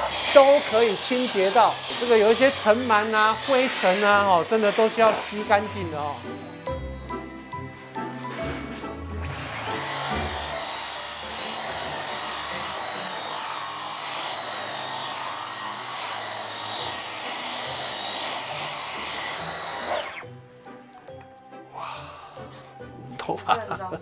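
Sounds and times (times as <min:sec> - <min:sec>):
vacuum motor whine: 0:00.0 - 0:20.8.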